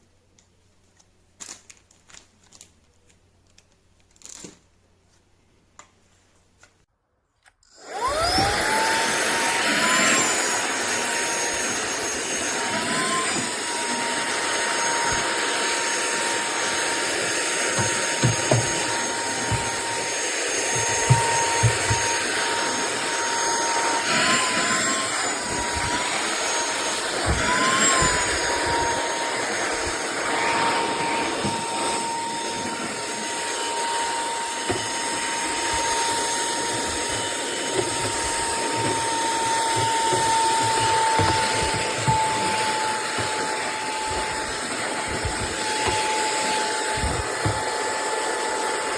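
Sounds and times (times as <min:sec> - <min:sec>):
handheld vacuum motor whine: 0:07.6 - 0:48.9.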